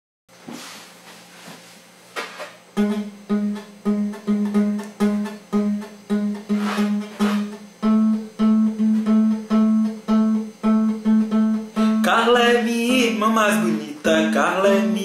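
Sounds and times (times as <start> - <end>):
acoustic guitar strumming: 2.8 - 15.0.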